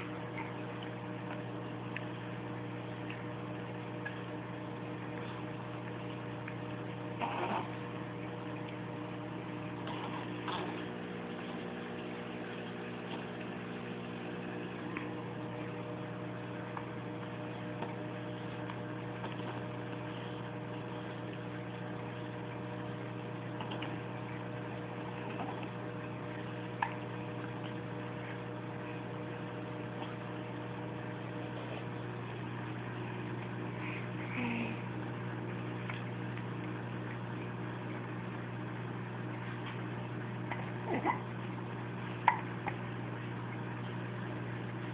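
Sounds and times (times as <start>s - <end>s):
ceiling fan motor hum: 0.0s - 44.9s.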